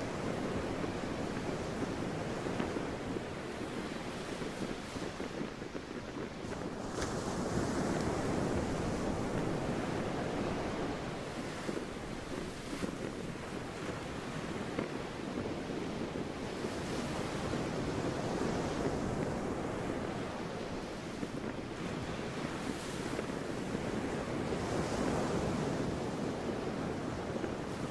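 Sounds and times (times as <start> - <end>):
sea waves washing in: 0.0 - 27.9
wind: 0.0 - 27.9.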